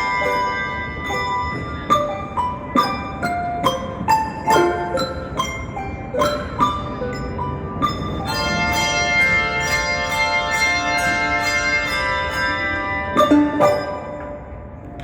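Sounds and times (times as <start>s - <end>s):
handbell choir playing: 0.0s - 14.6s.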